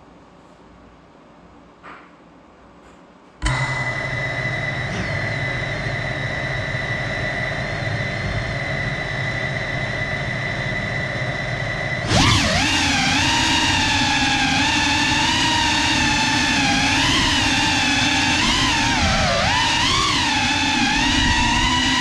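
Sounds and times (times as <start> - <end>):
drone motors whining: 3.4 - 22.0.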